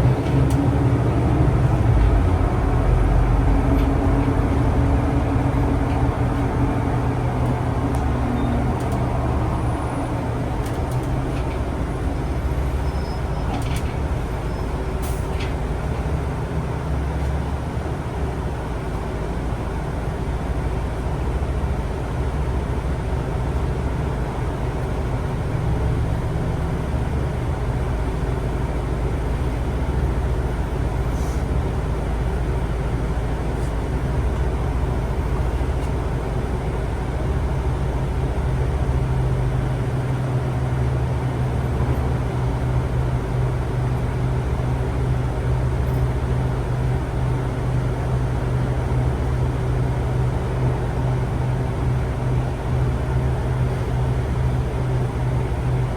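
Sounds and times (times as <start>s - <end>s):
vehicle running rumble: 0.0s - 55.9s.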